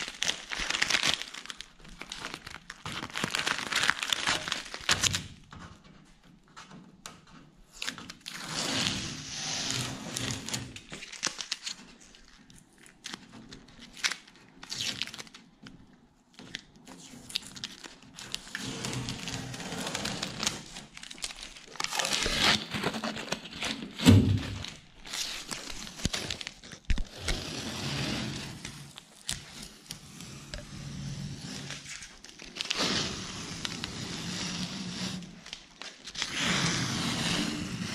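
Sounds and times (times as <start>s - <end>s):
tape tearing and crinkling: 0.0s - 6.0s, 7.7s - 37.9s.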